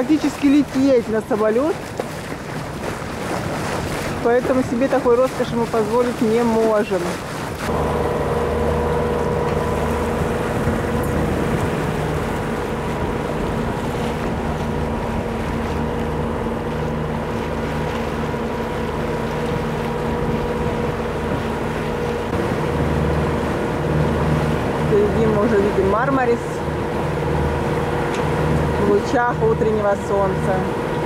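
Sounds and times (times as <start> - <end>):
boat diesel engine running: 0.0 - 31.0
water rushing past hull: 0.0 - 31.0
wind: 0.0 - 31.0.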